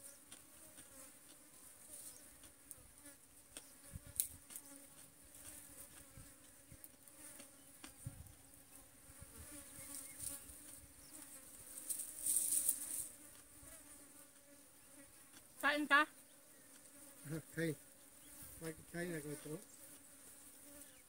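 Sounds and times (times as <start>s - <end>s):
flies buzzing: 0.0s - 21.0s.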